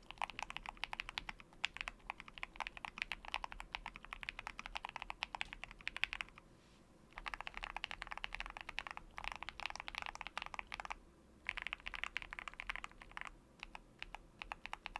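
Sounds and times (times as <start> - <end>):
typing on mechanical keyboard: 0.0 - 6.4, 7.1 - 14.9.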